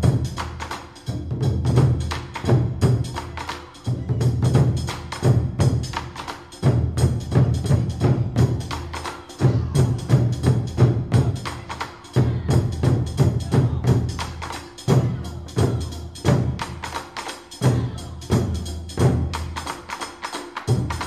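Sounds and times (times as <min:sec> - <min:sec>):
fast percussion music: 0:00.0 - 0:21.0.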